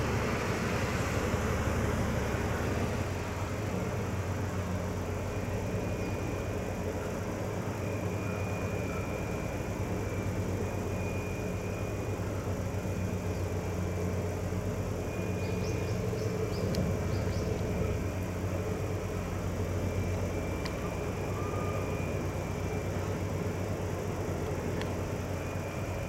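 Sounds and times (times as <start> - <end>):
faint high whine: 0.0 - 26.0
ferry diesel engines humming: 0.0 - 26.0.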